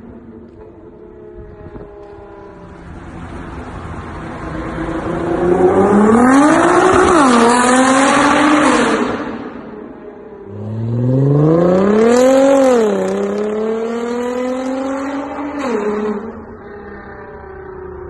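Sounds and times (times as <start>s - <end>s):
car engine accelerating hard: 0.3s - 9.8s, 10.4s - 17.8s.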